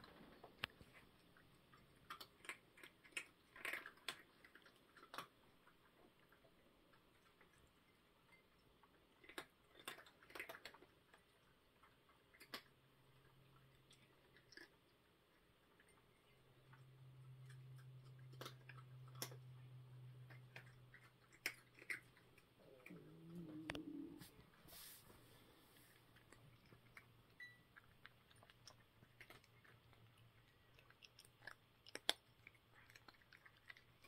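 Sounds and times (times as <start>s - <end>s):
cats chewing food: 0.0s - 34.0s.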